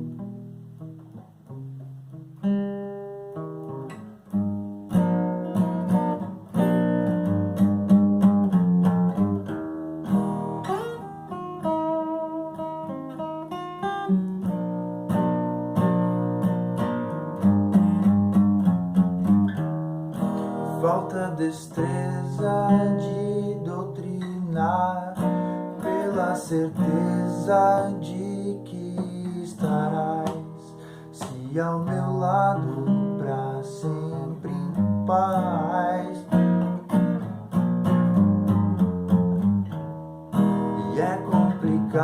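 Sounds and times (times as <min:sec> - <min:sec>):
acoustic guitar playing: 0:00.0 - 0:42.0.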